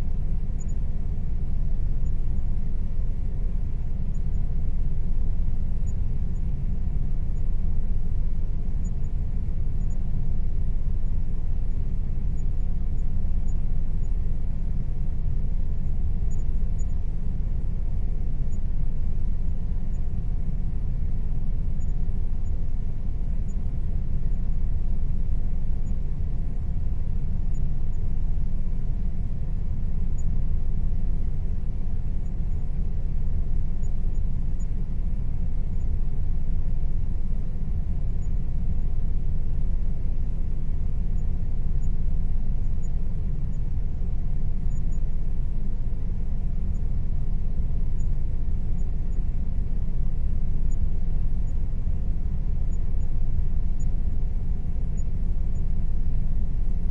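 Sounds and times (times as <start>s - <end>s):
air conditioner running: 0.0s - 56.9s.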